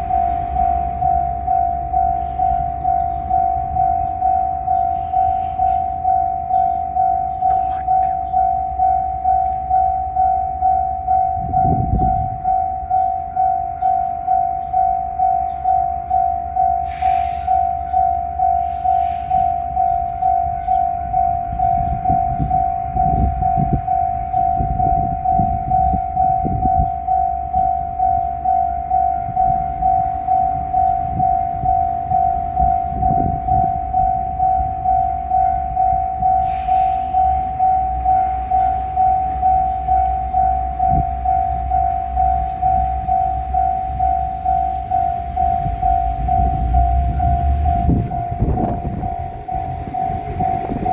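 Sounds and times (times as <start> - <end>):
level crossing alarm ringing: 0.0 - 50.9.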